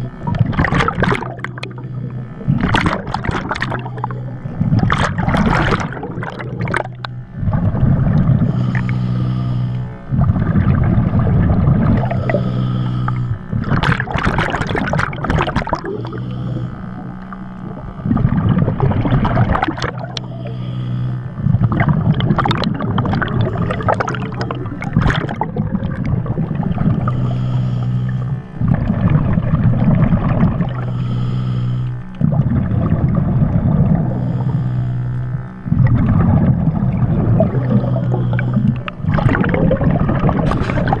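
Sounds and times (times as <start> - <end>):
exhaled bubbles gurgling underwater: 0.0 - 41.0
steady low hum: 0.0 - 41.0.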